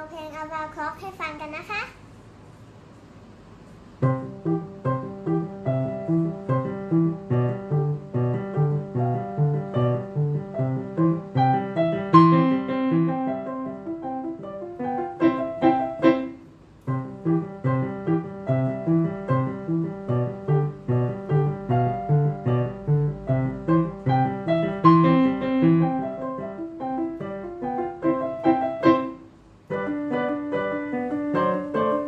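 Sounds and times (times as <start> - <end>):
solo piano playing: 4.0 - 32.0.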